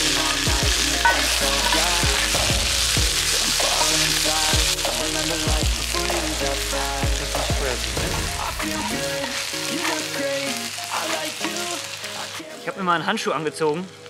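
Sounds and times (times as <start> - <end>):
onions sizzling in hot oil: 0.0 - 12.7
background music with steady beat: 0.0 - 14.0.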